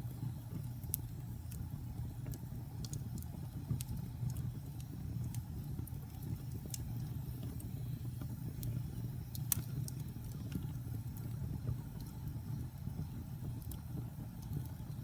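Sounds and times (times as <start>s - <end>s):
fire crackles and pops: 0.0s - 15.0s
wood fire rumbling: 0.0s - 15.0s.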